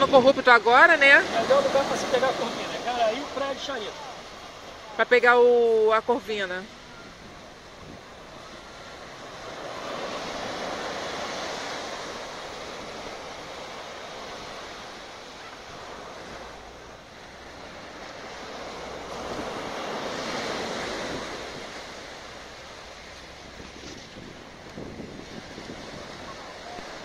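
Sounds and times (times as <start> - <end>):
small waves breaking on beach: 0.0 - 27.0.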